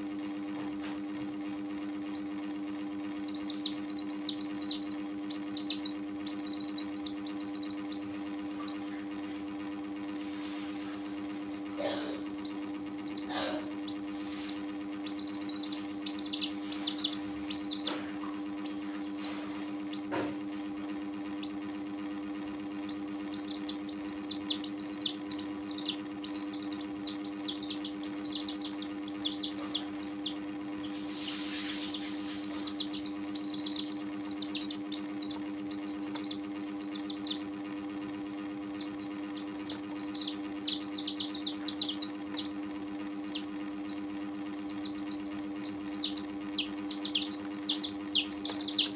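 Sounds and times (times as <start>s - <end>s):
baby chicks peeping: 0.0s - 48.9s
steady low hum: 0.0s - 48.9s.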